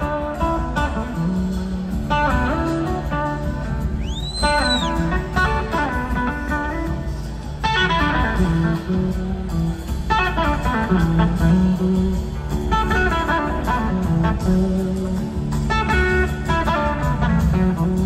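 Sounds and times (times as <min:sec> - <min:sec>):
bass line: 0:00.0 - 0:18.0
drums: 0:00.0 - 0:18.0
electric slide guitar: 0:00.0 - 0:18.0.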